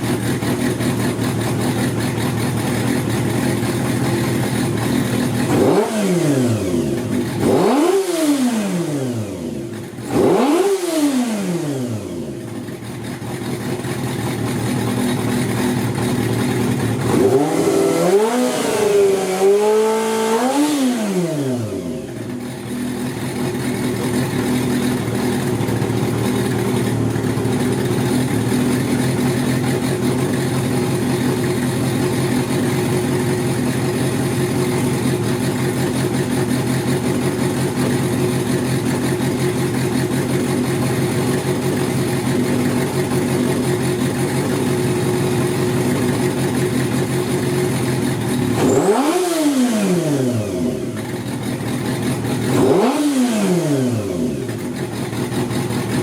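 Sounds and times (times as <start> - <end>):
motorcycle engine running and revving: 0.0 - 56.0.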